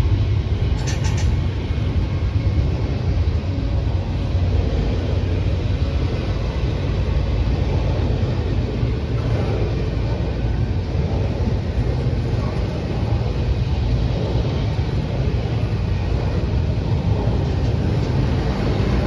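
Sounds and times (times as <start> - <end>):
freight train rumbling past: 0.0 - 19.0
train hiss: 0.0 - 19.0.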